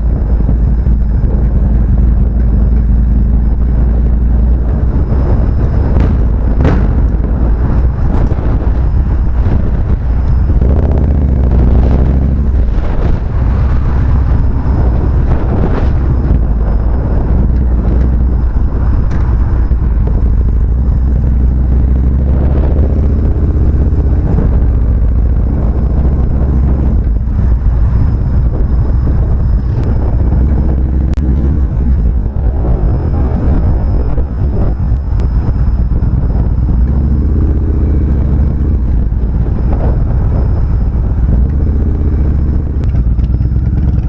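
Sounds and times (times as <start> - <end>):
motorcycle engine running: 0.0 - 44.0
wind rumble on microphone: 0.0 - 44.0.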